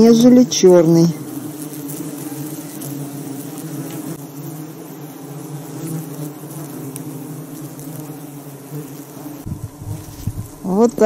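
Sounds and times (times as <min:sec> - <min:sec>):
swarm of flies buzzing: 0:00.0 - 0:11.0.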